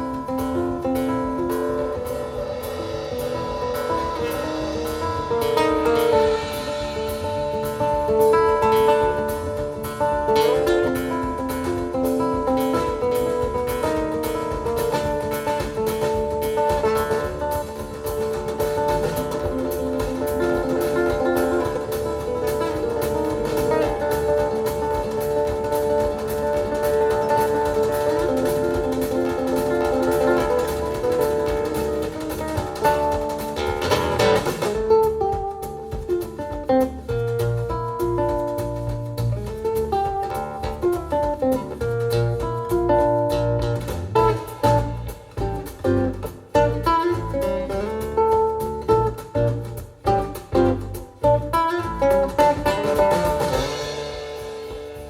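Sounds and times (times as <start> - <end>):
plucked guitar instrumental music: 0.0 - 55.0.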